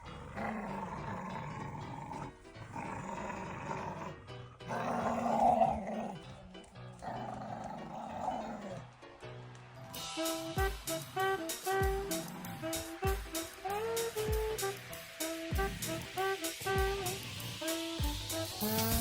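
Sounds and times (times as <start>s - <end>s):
dog growling playfully: 0.0s - 8.9s, 10.6s - 19.0s
background music: 0.0s - 19.0s.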